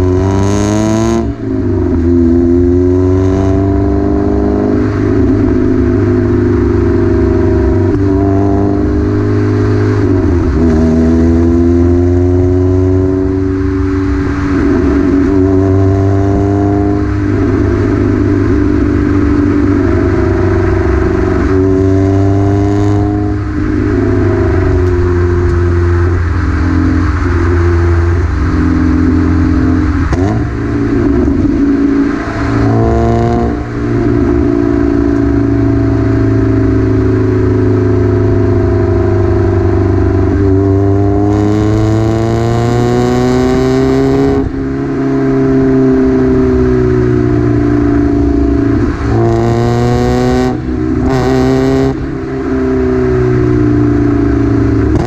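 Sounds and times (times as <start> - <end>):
raspy car engine revving: 0.0 - 55.0.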